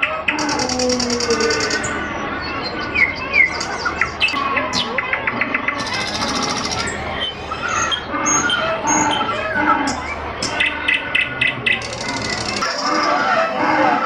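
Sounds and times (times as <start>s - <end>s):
harsh buzzy bird call: 0.0s - 14.0s
murmur of voices: 0.0s - 14.0s
robotic bird chirps and trills: 0.0s - 14.0s.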